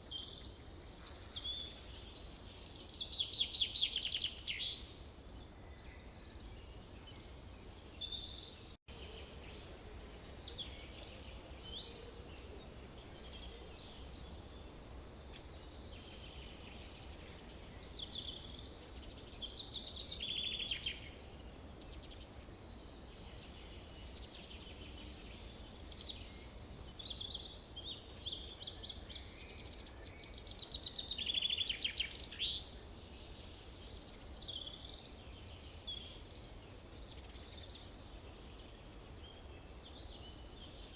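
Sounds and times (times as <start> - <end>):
forest birds chirping and whistling: 0.0 - 40.9.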